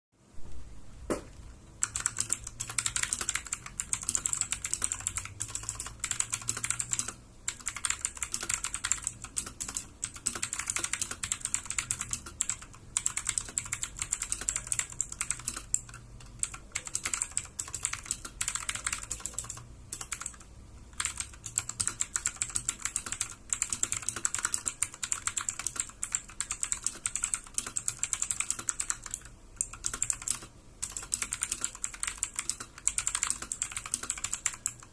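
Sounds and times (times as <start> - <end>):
clicky mechanical keyboard typing: 1.8 - 34.9.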